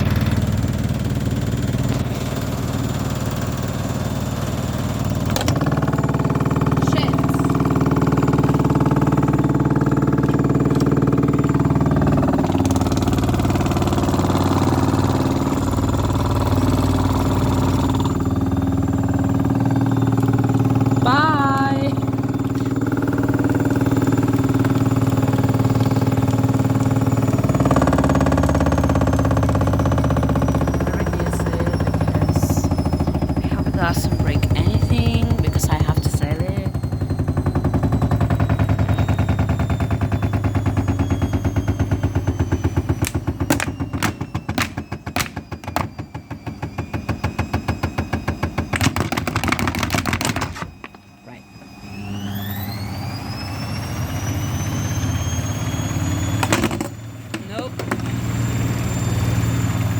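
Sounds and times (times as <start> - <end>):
motor whine: 0.0 - 59.9
washing machine spinning: 0.0 - 59.9.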